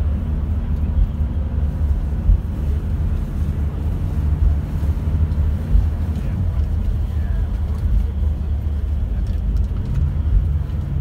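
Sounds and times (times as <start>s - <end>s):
coach engine and road noise: 0.0s - 11.0s.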